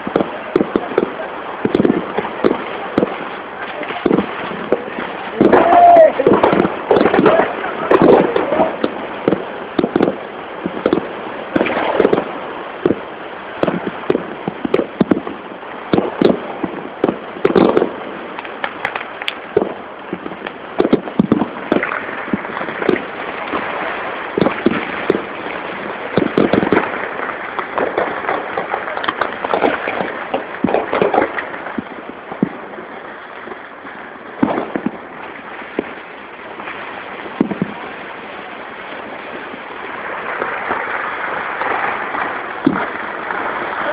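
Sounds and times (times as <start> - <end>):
aerial shells bursting: 0.0 - 43.9
firecrackers banging and popping: 0.0 - 43.9.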